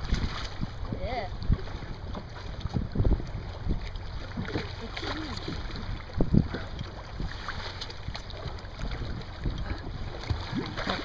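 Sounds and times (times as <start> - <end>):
water splashing against boat: 0.0 - 11.0
wind buffeting microphone: 0.0 - 11.0.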